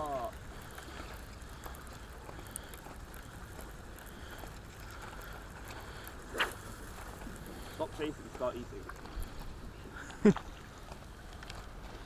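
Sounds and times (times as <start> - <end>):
faint ticks: 0.0 - 12.0
wind: 0.0 - 12.0.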